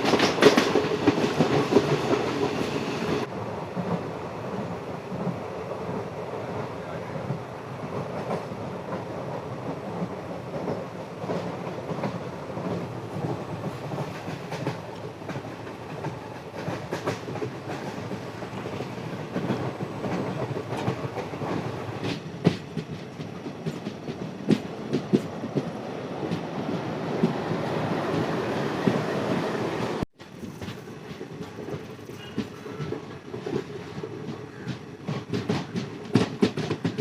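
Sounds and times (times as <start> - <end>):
wheels clattering over rail joints: 0.0 - 3.3, 10.5 - 37.0
train coaches rumbling on track: 0.0 - 37.0.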